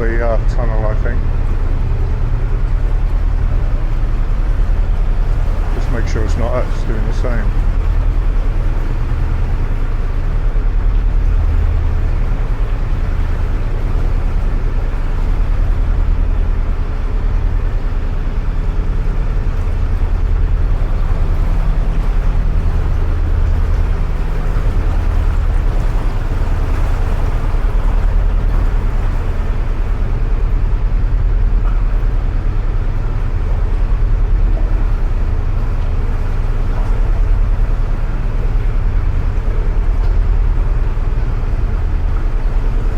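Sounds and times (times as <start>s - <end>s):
diesel boat engine throbbing: 0.0s - 42.9s.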